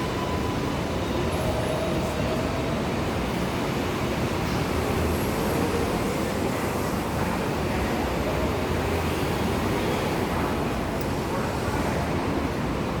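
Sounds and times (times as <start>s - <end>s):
subway train running: 0.0s - 13.0s.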